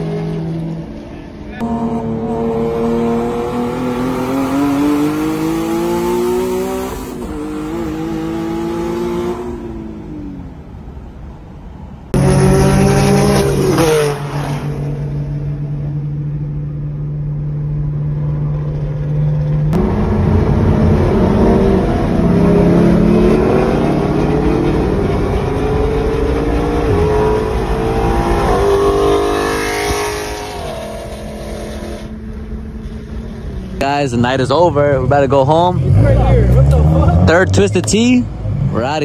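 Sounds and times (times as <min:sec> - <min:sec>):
car engine revving: 0:00.0 - 0:10.6, 0:12.0 - 0:39.0.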